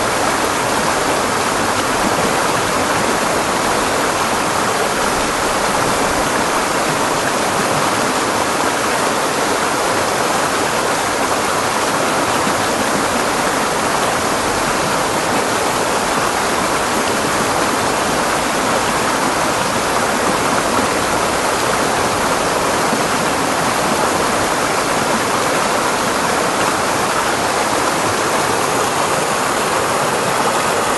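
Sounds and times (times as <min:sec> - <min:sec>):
creek water rushing over boulders: 0:00.0 - 0:30.9.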